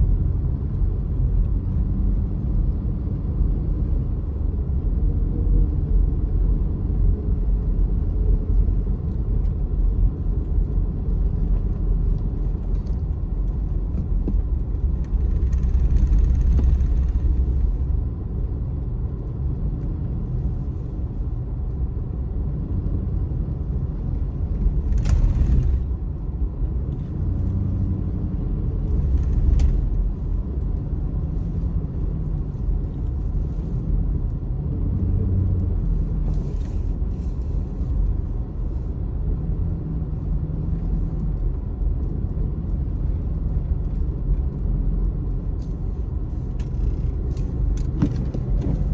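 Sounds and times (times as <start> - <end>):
vehicle engine rumble: 0.0 - 48.9.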